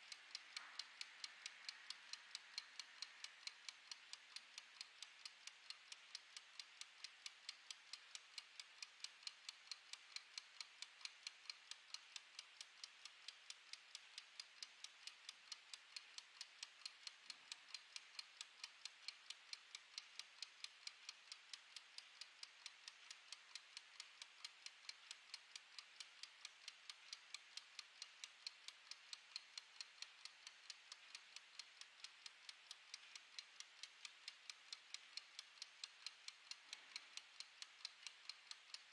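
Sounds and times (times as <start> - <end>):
kitchen timer ticking: 0.0 - 38.9.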